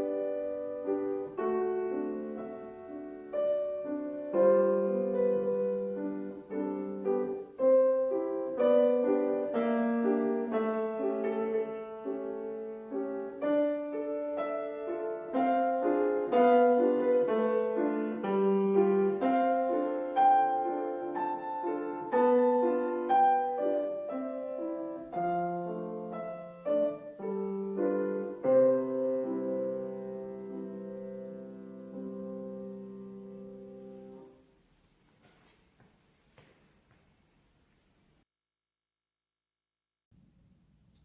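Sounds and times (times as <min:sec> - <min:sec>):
solo classical piano: 0:00.0 - 0:38.3.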